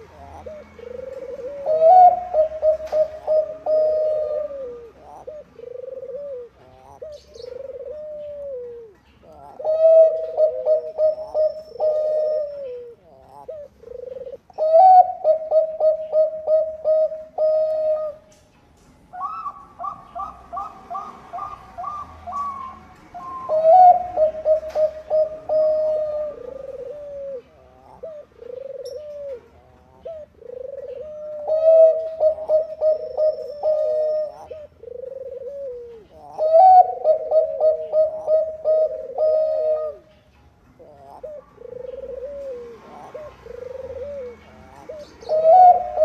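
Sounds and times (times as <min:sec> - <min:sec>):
doves cooing: 0:00.0 - 0:18.5, 0:19.1 - 0:46.0.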